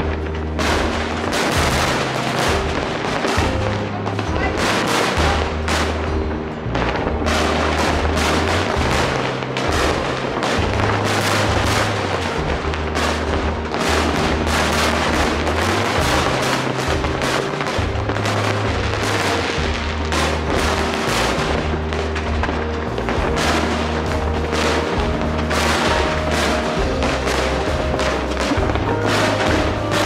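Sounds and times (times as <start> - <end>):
firework bangs: 0.0 - 30.0
music with held bass notes: 0.0 - 30.0.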